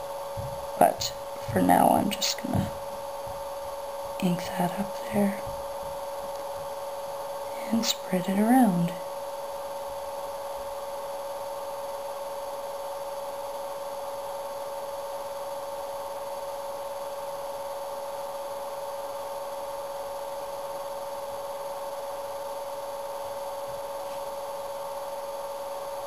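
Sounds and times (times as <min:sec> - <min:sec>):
electrical hum with whine: 0:00.0 - 0:26.0.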